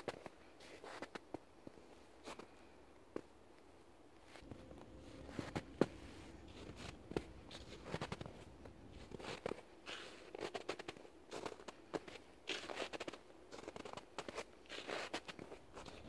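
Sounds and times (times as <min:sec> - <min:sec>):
footsteps crunching in snow: 0:00.0 - 0:02.5, 0:04.2 - 0:16.0.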